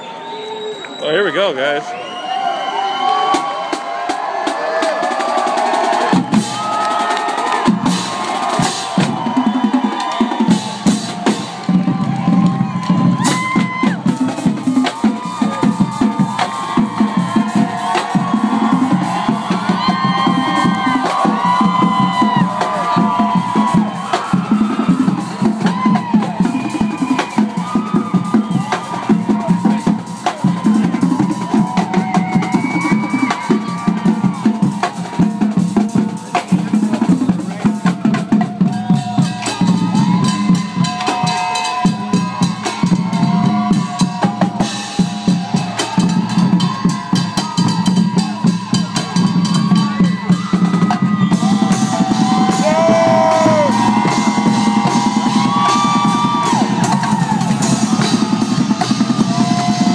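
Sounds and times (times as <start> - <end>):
drum-driven music: 3.2 - 59.9.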